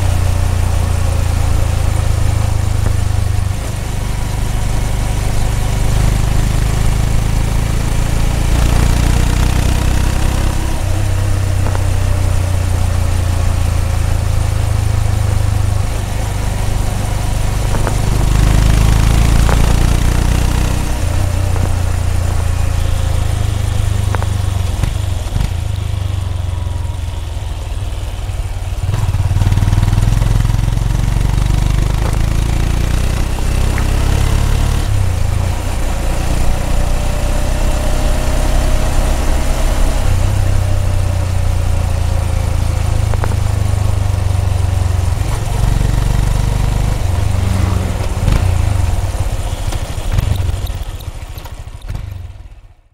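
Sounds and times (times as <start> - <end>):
motorcycle engine exhaust: 0.0 - 52.8.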